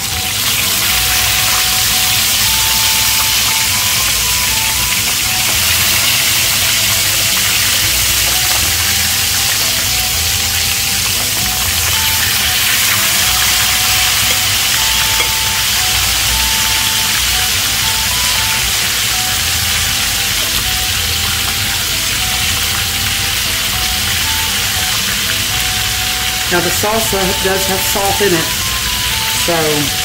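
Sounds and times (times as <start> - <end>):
chicken sizzling in oil: 0.0 - 30.0
faint background music: 0.0 - 30.0.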